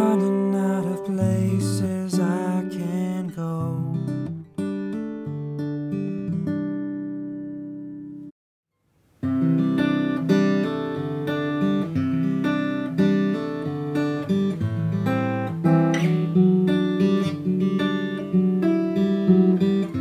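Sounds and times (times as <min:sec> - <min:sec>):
acoustic guitar playing chords: 0:00.0 - 0:08.3, 0:09.2 - 0:20.0.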